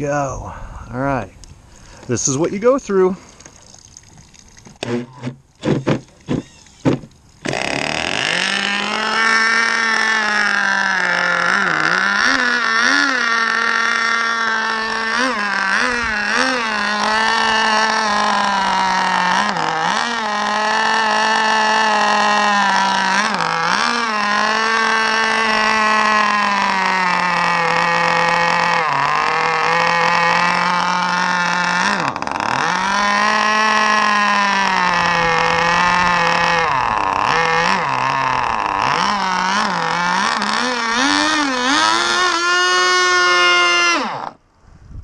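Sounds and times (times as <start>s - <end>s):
two-stroke outboard engine running: 3.2s - 44.4s.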